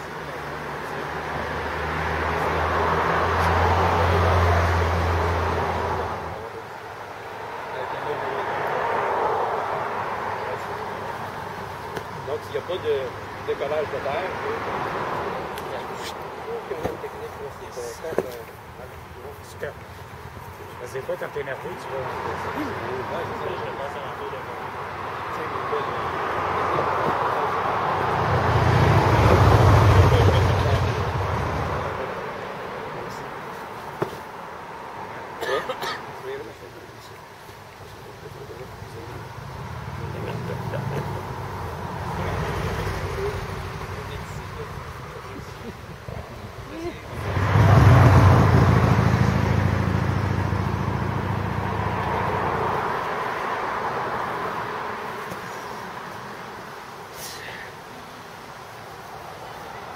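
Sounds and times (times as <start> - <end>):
motor vehicle passing: 0.0 - 35.4, 36.1 - 59.9.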